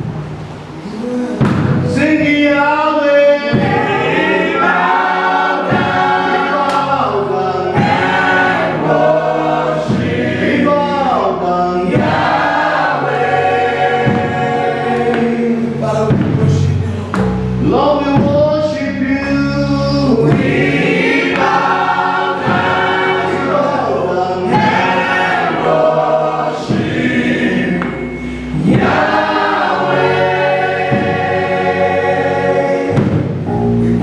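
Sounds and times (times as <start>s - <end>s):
choir singing gospel: 0.0s - 34.0s.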